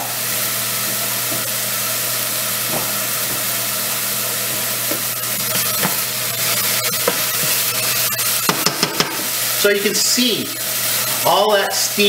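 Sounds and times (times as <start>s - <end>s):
eggplant sizzling in hot oil: 0.0s - 12.0s.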